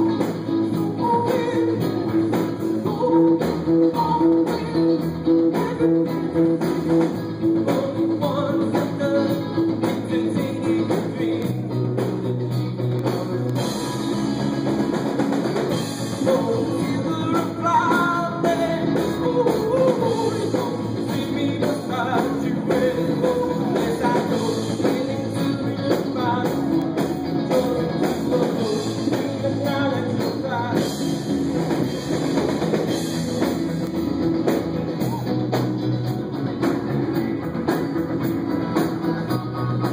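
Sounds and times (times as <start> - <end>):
person singing: 0.0 - 14.5, 15.7 - 31.3, 34.5 - 39.9
drum kit: 0.0 - 39.9
guitars: 0.0 - 39.9.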